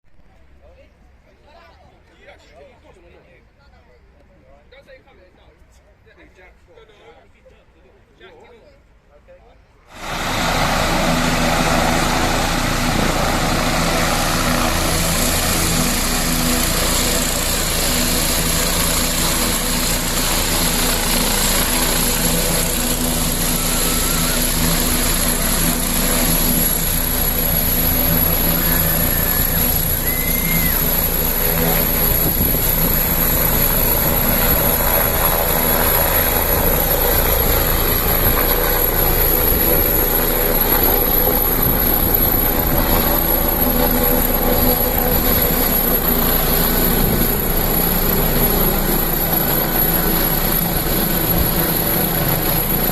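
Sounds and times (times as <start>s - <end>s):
helicopter drone: 9.9s - 52.9s
high-pitched whine: 9.9s - 52.9s.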